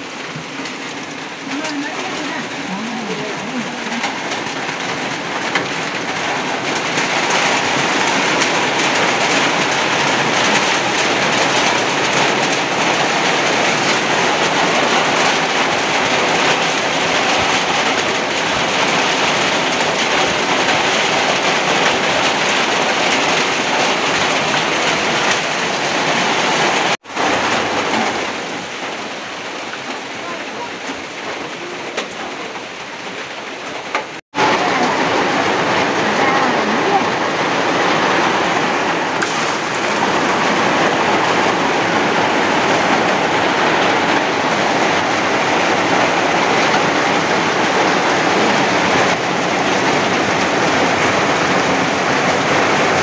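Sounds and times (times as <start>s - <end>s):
heavy rain on a metal roof: 0.0s - 53.0s.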